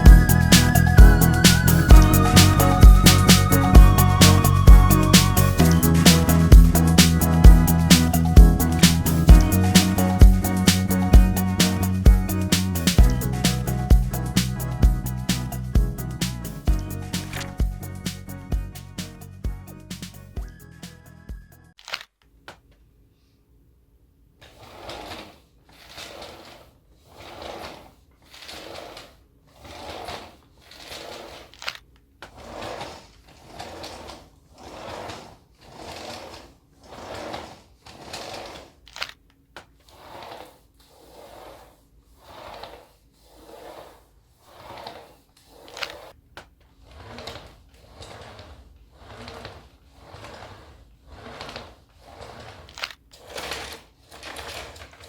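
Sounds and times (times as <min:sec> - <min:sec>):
vacuum brush rollers swishing: 0:00.0 - 0:21.2, 0:24.4 - 0:55.0.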